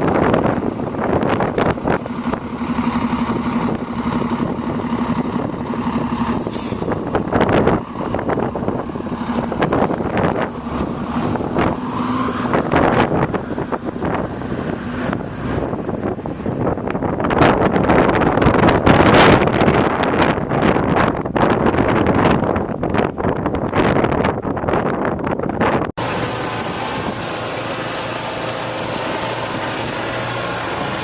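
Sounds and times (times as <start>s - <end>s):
vehicle engine humming: 0.0s - 23.6s, 25.0s - 31.0s
wind on microphone: 0.0s - 31.0s.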